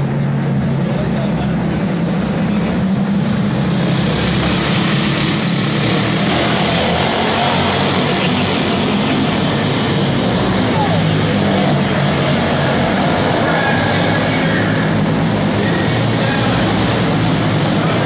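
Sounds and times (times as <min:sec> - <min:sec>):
go-kart engines droning: 0:00.0 - 0:18.0.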